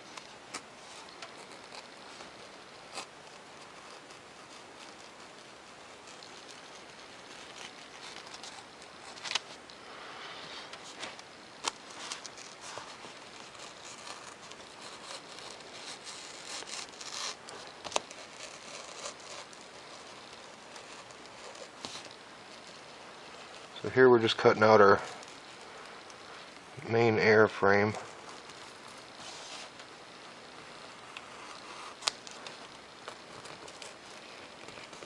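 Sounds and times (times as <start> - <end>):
knife cutting foam: 0.0 - 26.8, 27.4 - 35.0.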